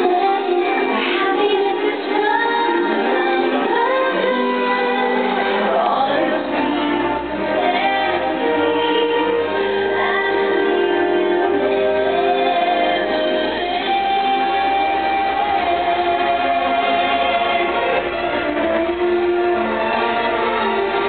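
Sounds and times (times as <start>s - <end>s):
soundtrack music with choir: 0.0s - 21.0s.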